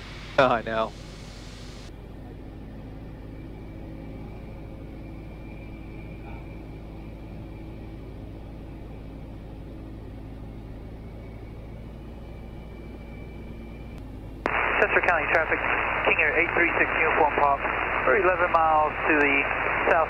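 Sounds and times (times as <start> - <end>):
propeller plane engine droning: 0.0 - 20.0.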